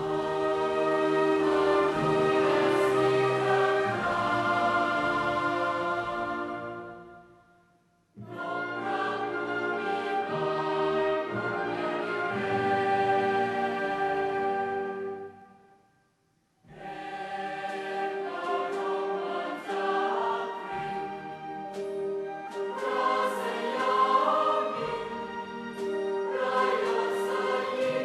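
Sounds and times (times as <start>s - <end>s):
orchestra playing: 0.0s - 7.2s, 8.4s - 15.4s, 18.3s - 28.0s
choir singing: 0.0s - 7.4s, 8.2s - 15.4s, 16.7s - 28.0s.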